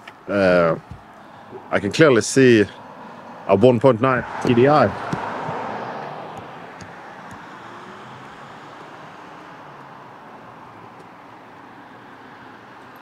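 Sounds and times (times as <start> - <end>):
road noise: 0.0 - 13.0
diesel car engine driving away: 0.3 - 12.8.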